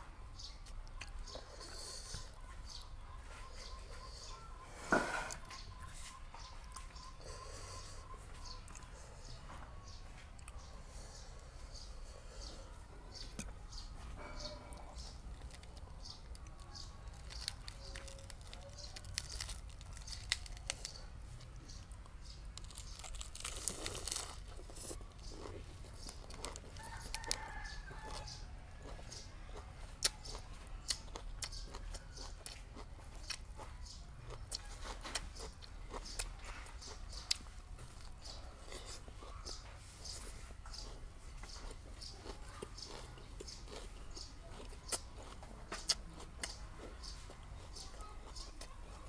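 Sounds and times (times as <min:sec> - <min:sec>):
crunching raw vegetables: 0:00.3 - 0:49.0.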